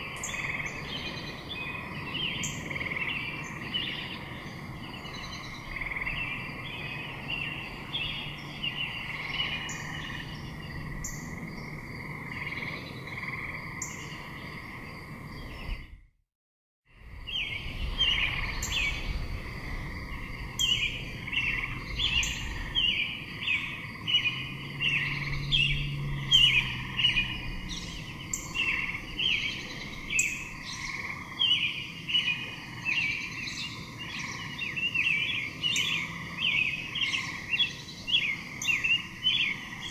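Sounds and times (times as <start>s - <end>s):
small birds chirping: 0.0s - 15.9s, 17.1s - 39.9s.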